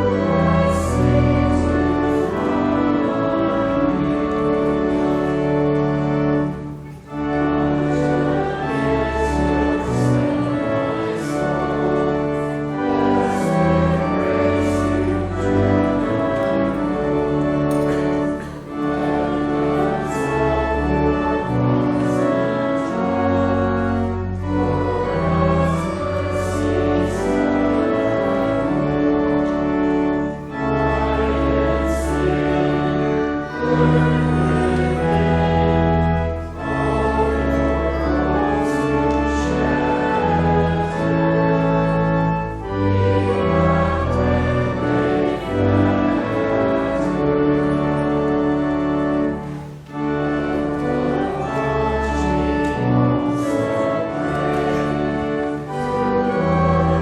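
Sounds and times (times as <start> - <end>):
church organ playing chords: 0.0 - 57.0.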